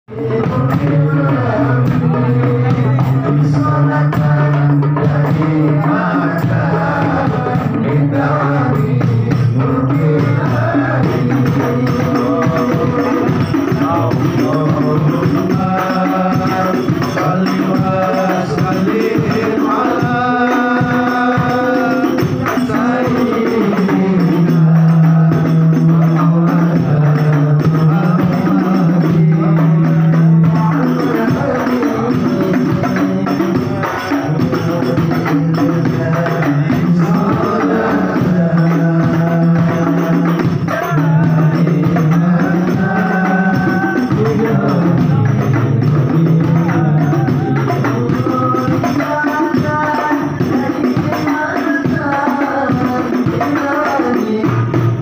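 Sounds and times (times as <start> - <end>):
man singing into microphone: 0.0 - 55.0
frame drums beating: 0.1 - 55.0.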